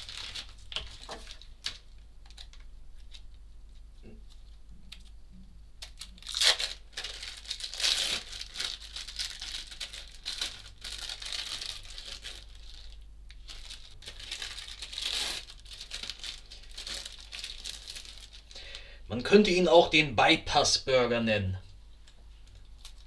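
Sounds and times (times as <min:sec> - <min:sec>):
plastic packaging crinkling: 0:00.0 - 0:05.1, 0:05.8 - 0:18.8, 0:22.4 - 0:23.0.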